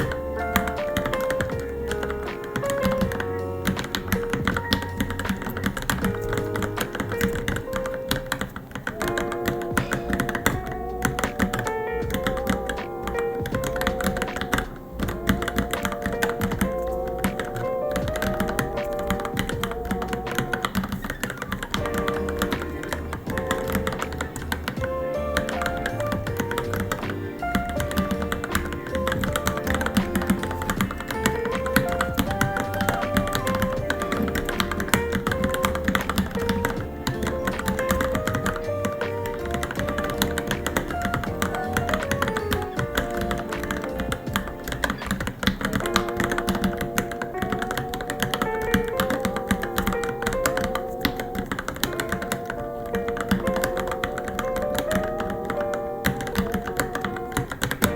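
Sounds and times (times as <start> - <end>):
background music with wavering melody: 0.0 - 57.9
mechanical keyboard typing: 0.0 - 57.9.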